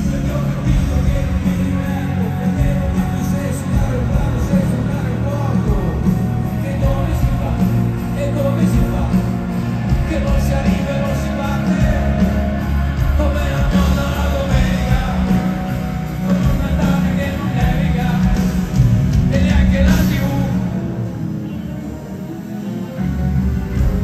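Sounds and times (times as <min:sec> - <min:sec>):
man singing: 0:00.0 - 0:21.7
heavy bass: 0:00.0 - 0:24.0
live rock band: 0:00.0 - 0:24.0.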